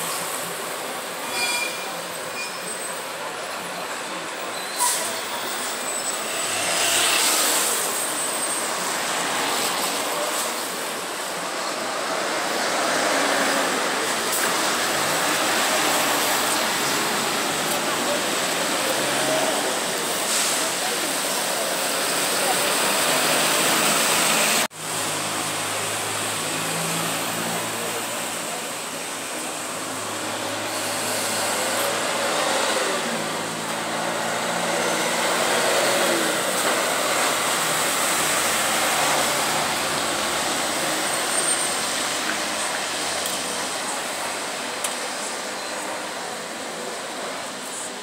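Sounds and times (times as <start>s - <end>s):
buses and cars driving past: 0.0s - 48.0s
tyres hissing on wet road: 0.0s - 48.0s.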